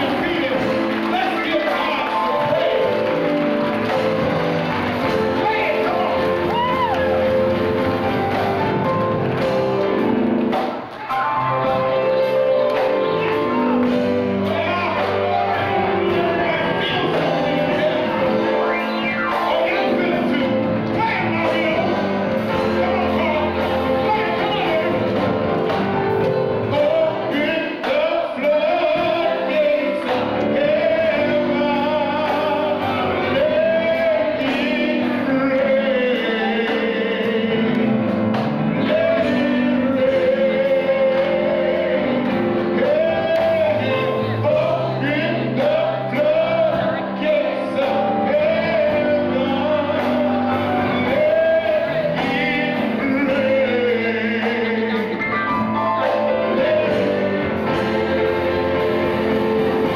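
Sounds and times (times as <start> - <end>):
man singing gospel song: 0.0 - 10.0, 11.6 - 59.9
instrumental accompaniment: 0.0 - 59.9.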